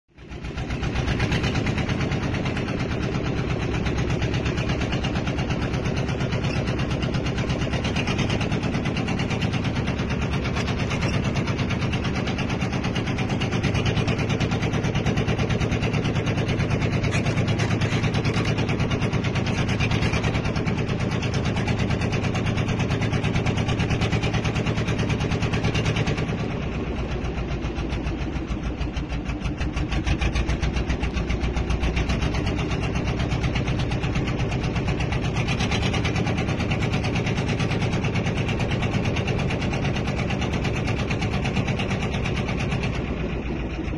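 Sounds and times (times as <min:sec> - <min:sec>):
boat engine pulsing: 0:00.1 - 0:43.9.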